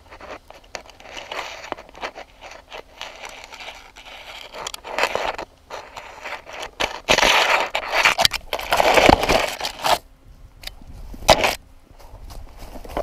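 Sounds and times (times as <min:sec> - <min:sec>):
branches scraping and crackling: 0:00.0 - 0:10.0, 0:10.8 - 0:13.0.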